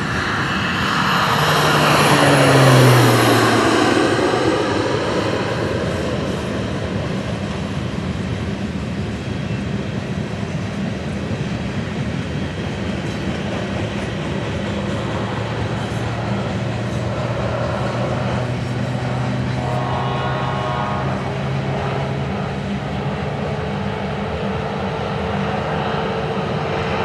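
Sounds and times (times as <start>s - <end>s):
freight train rumbling by: 0.0s - 27.0s
propeller plane engine: 0.0s - 27.0s.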